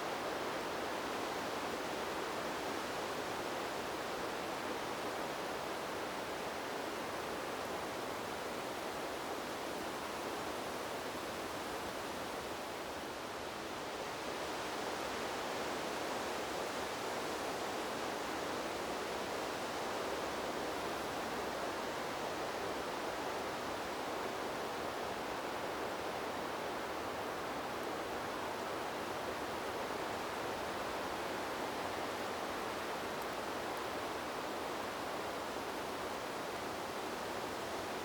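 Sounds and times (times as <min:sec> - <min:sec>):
wind blowing through trees: 0:00.0 - 0:38.0.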